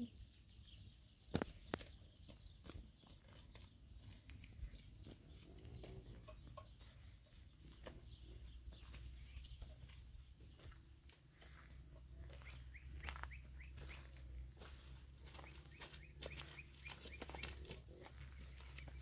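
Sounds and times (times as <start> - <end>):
footsteps crunching on stony ground: 1.2 - 19.0.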